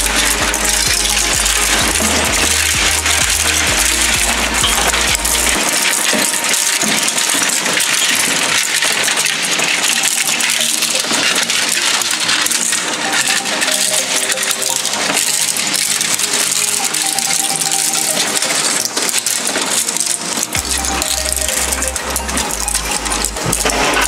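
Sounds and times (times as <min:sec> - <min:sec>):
shredder crushing plastic: 0:00.0 - 0:24.0.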